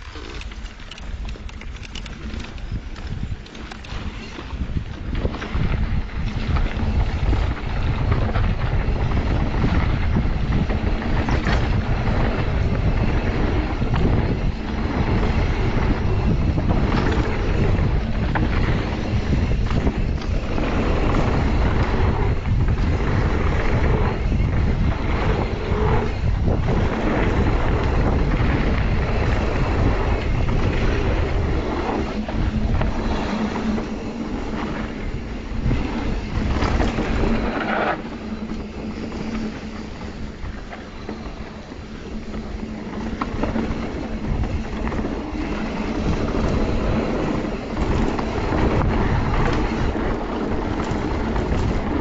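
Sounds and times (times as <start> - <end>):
bike knocking and rattling: 0.0 - 52.0
wind rushing over microphone: 0.0 - 52.0.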